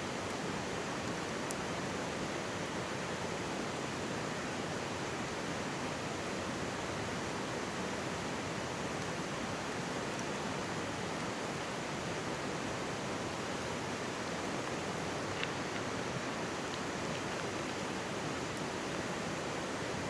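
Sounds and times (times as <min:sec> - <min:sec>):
campfire crackles: 0:00.1 - 0:20.0
mountain stream rushing: 0:00.1 - 0:20.0.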